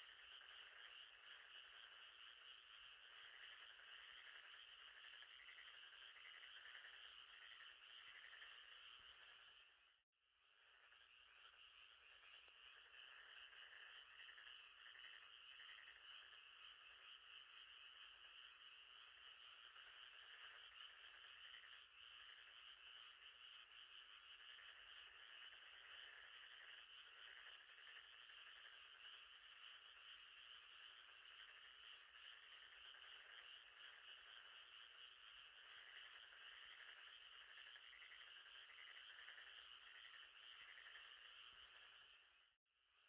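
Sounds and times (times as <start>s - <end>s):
frogs calling: 0.0s - 9.9s, 10.6s - 42.4s.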